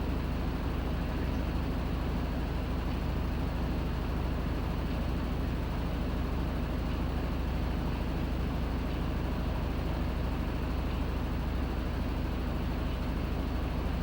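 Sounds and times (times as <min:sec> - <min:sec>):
washing machine humming and whirring: 0:00.0 - 0:14.0.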